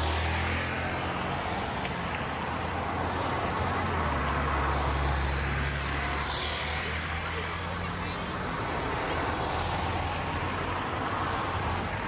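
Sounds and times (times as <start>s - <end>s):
passing road vehicles: 0.0s - 12.0s.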